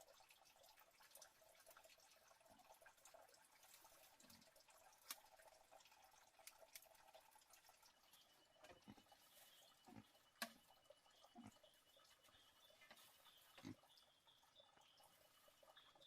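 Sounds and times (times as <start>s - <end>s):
soft drips or knocks: 0.0s - 16.0s.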